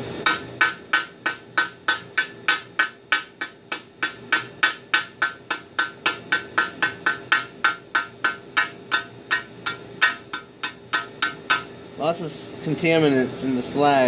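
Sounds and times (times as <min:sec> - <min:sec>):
chipping hammer striking metal: 0:00.2 - 0:11.8.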